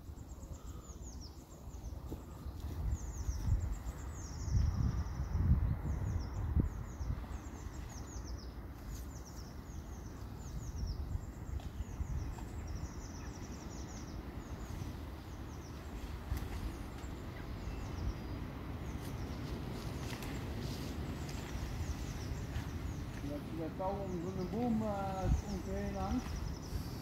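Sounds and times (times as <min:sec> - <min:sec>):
birds twittering: 0:00.0 - 0:27.0.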